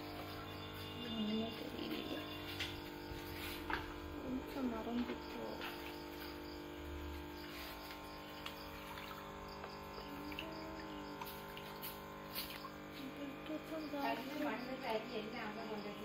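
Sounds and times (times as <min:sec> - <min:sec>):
aquarium pump humming: 0:00.0 - 0:16.0
faint water sounds: 0:00.0 - 0:16.0.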